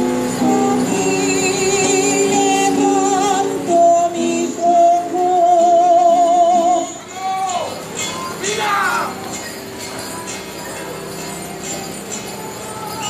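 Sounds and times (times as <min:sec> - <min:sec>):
musical accompaniment: 0:00.0 - 0:13.0.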